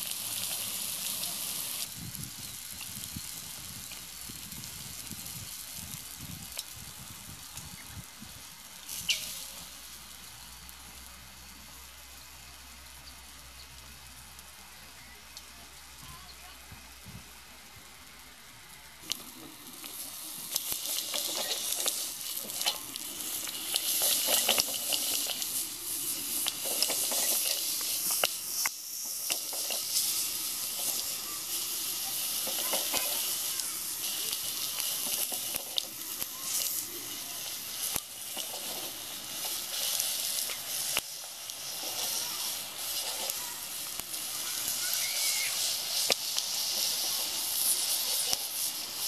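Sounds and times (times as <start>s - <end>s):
pork sizzling on a grill: 0.0s - 49.0s.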